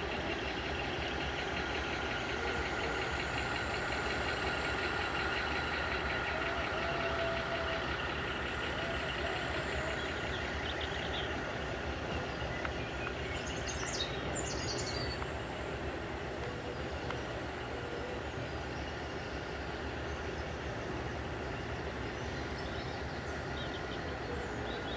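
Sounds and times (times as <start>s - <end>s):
diesel train engine running: 0.0s - 24.9s.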